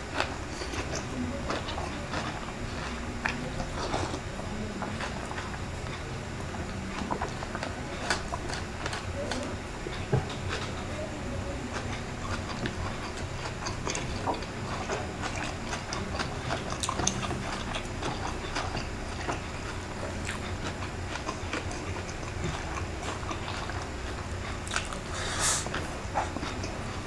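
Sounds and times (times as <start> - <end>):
chewing with mouth clicks: 0.0 - 27.0.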